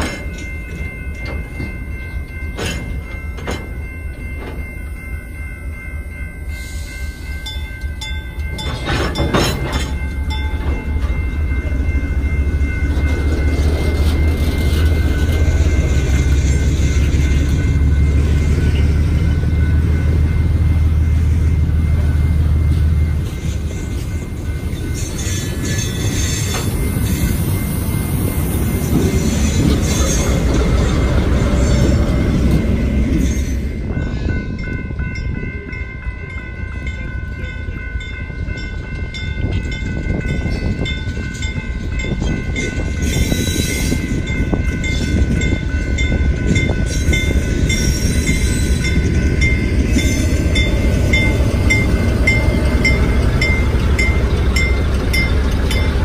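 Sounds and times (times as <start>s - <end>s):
crossing warning bell: 0.0s - 56.0s
diesel locomotive engine rumble: 0.0s - 56.0s
train cars rumbling over crossing: 0.0s - 56.0s.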